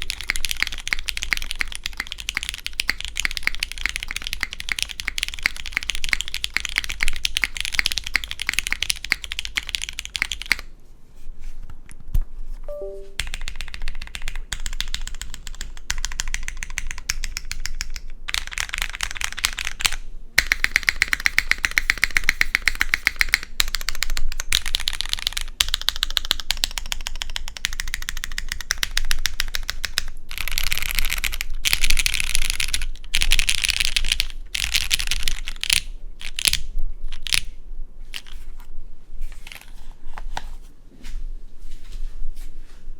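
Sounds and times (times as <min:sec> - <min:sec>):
mechanical keyboard typing: 0:00.0 - 0:10.7, 0:12.7 - 0:37.5.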